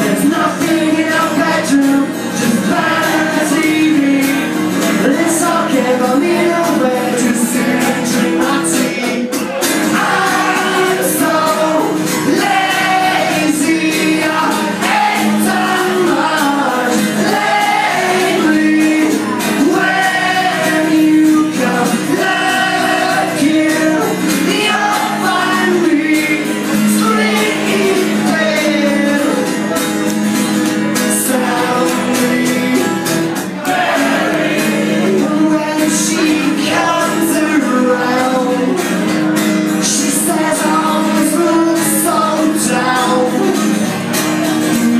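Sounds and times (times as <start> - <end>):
acoustic guitar strumming: 0.0 - 44.9
man singing: 0.0 - 44.9.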